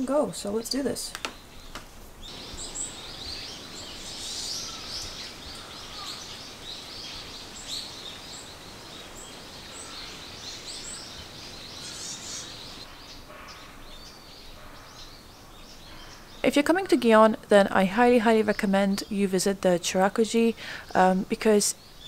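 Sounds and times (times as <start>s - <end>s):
small birds chirping: 0.0s - 22.0s
steady background hiss: 0.0s - 22.0s.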